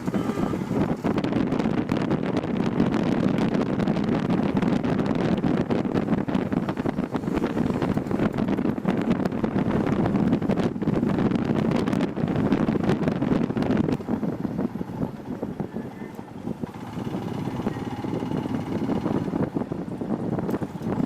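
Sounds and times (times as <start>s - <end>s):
motorcycle engine and tyre rumble: 0.0s - 21.0s
wind buffeting microphone: 0.0s - 21.0s.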